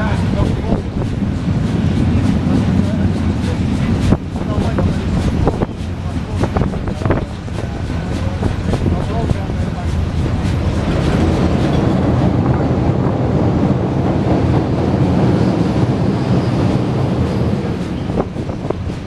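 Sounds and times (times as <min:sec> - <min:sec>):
clatter crossing a bridge: 0:00.0 - 0:19.0
train wheels rumbling on rail: 0:00.0 - 0:19.0.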